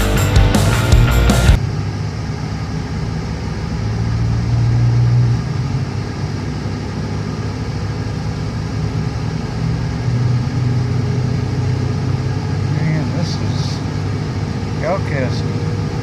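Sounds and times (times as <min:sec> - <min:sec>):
car engine and road hum: 0:00.8 - 0:16.0.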